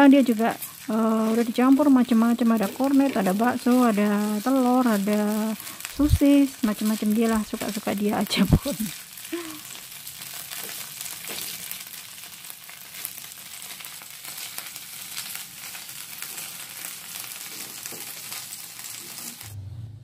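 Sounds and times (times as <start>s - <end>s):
spatula stirring in a pan: 0.0s - 19.5s
meat sizzling in a frying pan: 0.0s - 19.6s.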